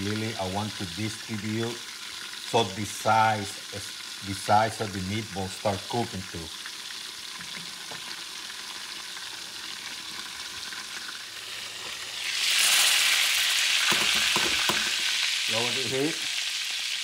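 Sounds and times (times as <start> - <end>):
meatballs sizzling in oil: 0.0 - 17.0.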